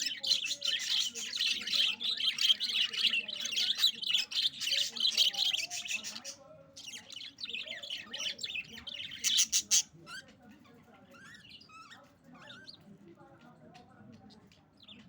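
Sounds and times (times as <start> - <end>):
budgerigars chirping and chattering: 0.0 - 15.0.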